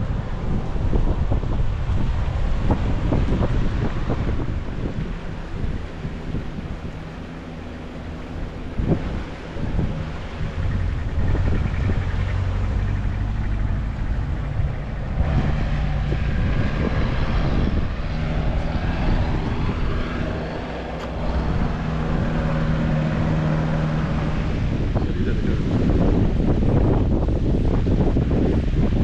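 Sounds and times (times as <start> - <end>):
rushing background noise: 0.0 - 29.0
vehicle engines humming: 0.0 - 29.0.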